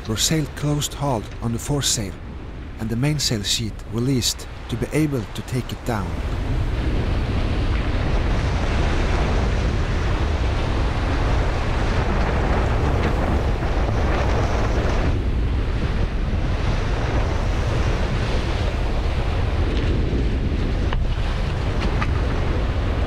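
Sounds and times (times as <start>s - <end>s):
waves rushing along hull: 0.0s - 23.0s
wind buffeting microphone: 0.0s - 23.0s.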